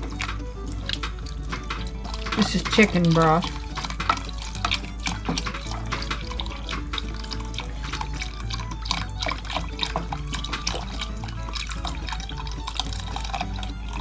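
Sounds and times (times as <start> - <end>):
broth pouring into pot: 0.0 - 14.0
liquid splashing and trickling: 0.0 - 14.0
soft background music: 0.0 - 14.0.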